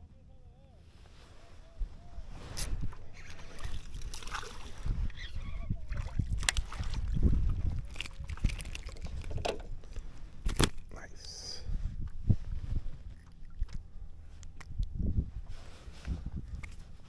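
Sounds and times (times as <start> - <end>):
wind on microphone: 1.1 - 17.0.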